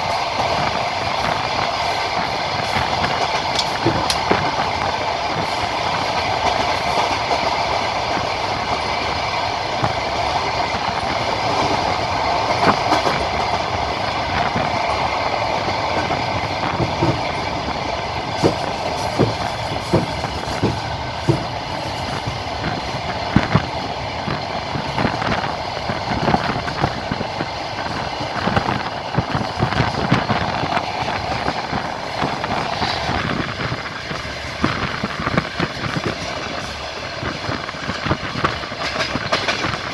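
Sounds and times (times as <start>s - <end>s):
train rolling rumble: 0.0s - 39.9s
wheels clacking over rail joints: 0.0s - 39.9s.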